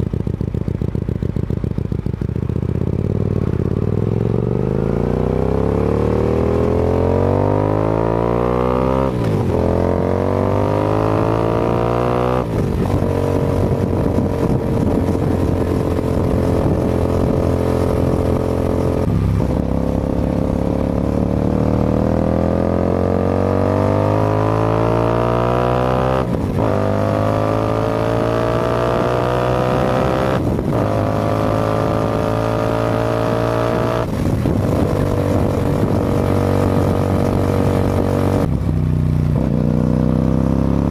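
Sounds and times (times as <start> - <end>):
motorcycle exhaust revving through gears: 0.0 - 40.9.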